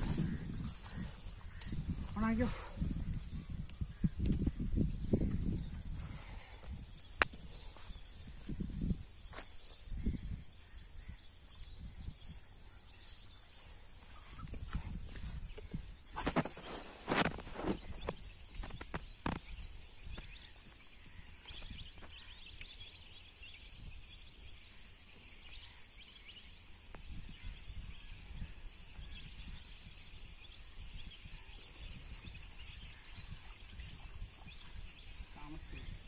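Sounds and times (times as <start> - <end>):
distant birds chirping: 0.0 - 36.0.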